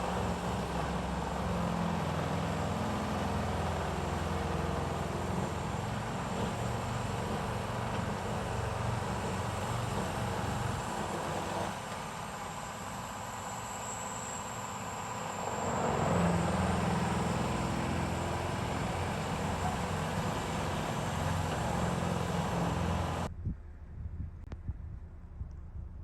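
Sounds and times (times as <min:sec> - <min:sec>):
vehicle running rumble: 0:00.0 - 0:26.0.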